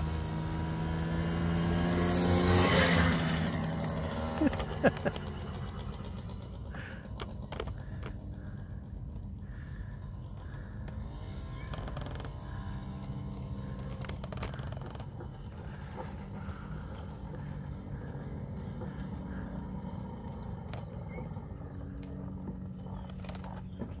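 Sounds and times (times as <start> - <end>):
moped engine running: 0.0 - 24.0.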